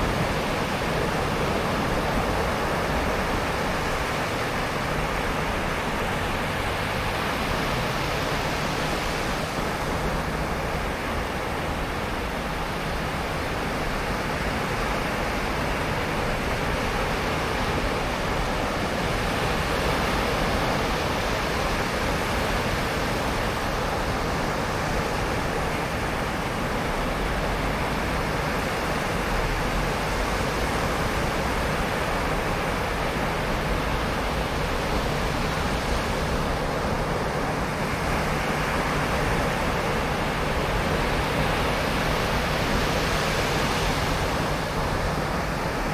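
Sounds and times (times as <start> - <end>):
waves breaking on beach: 0.0 - 45.9.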